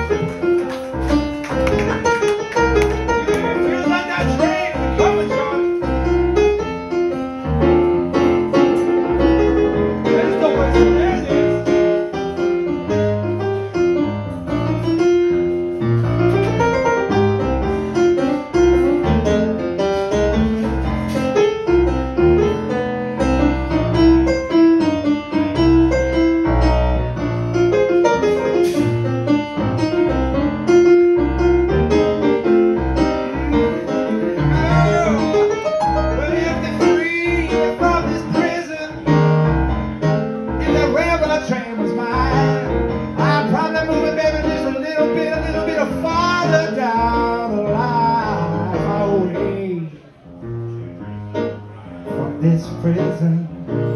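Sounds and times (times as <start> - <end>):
bluesy piano solo: 0.0 - 53.9.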